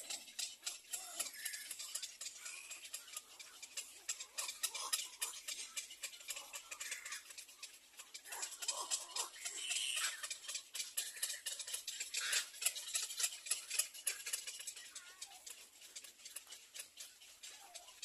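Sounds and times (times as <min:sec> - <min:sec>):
ducklings peeping: 0:00.0 - 0:18.0
small clicks and scratching: 0:00.0 - 0:18.0.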